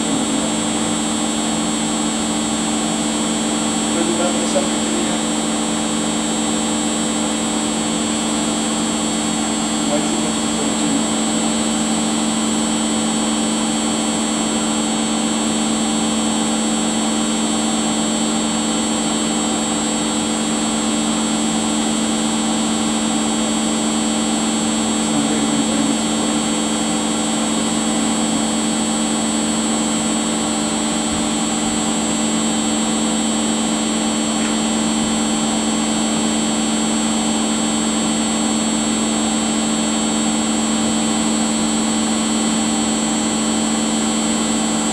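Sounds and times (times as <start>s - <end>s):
appliance motor hum: 0.0s - 44.9s.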